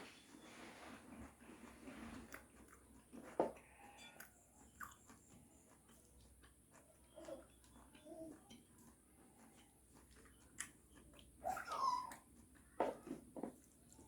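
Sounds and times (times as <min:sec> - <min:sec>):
person chewing: 0:01.0 - 0:12.8.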